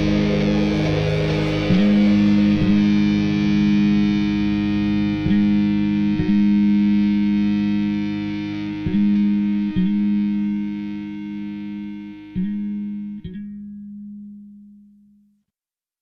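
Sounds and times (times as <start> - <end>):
distorted electric guitar: 0.0 - 13.8.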